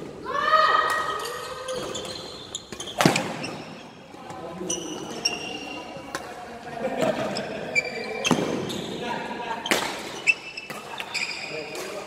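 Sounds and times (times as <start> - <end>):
shoes squeaking on court: 1.0 - 12.0.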